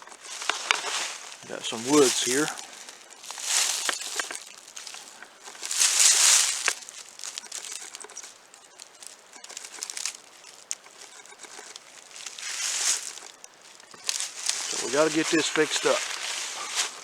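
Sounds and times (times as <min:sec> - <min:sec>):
footsteps crunching through dry leaves: 0:00.0 - 0:17.0
twigs snapping: 0:00.0 - 0:17.0.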